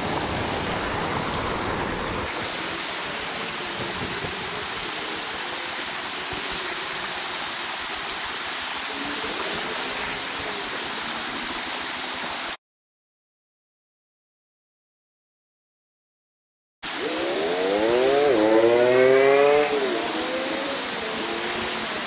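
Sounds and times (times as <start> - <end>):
creek water rushing over rocks: 0.0 - 12.6, 16.8 - 22.0.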